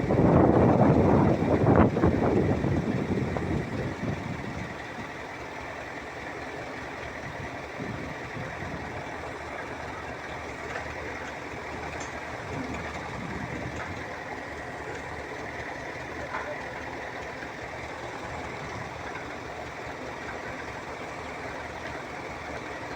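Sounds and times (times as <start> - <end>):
heavy machinery engine running: 0.0 - 22.9.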